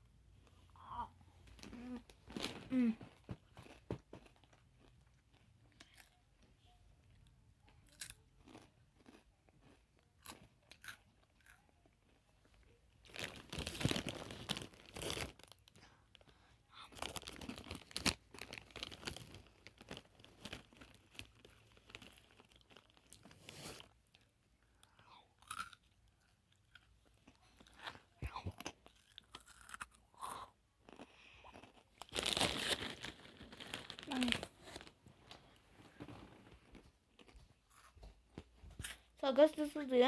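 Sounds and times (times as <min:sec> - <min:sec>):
crunching and chewing: 0:01.5 - 0:39.1.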